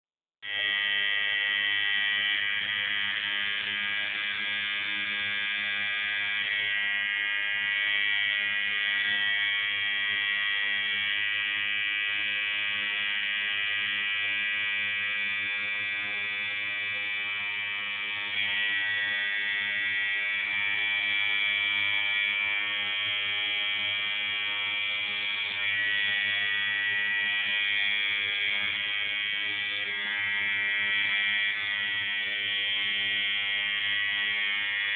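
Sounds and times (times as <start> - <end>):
tattoo machine buzzing: 0.4 - 34.9.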